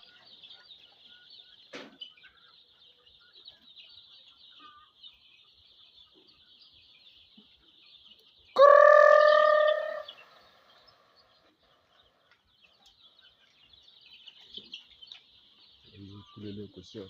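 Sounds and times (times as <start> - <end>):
chicks chirping: 0.0 - 17.0.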